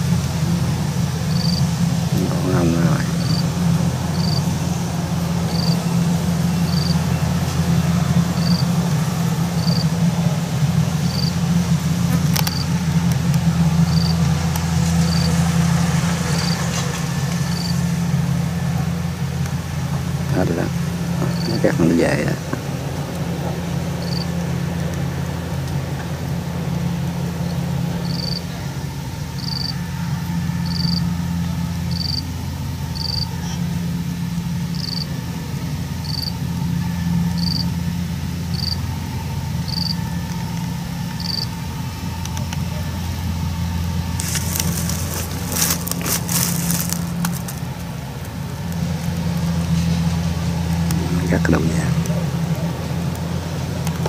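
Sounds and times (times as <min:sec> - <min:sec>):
combine harvester engine hum: 0:00.0 - 0:54.0.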